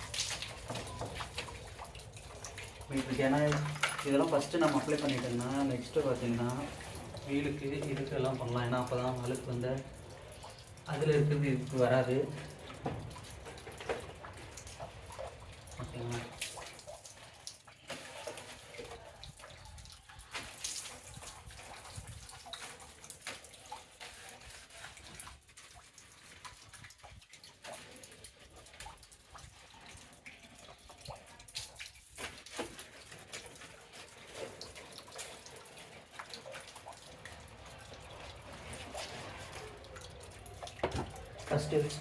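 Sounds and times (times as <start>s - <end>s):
soapy water dripping and splashing: 0.0s - 42.0s.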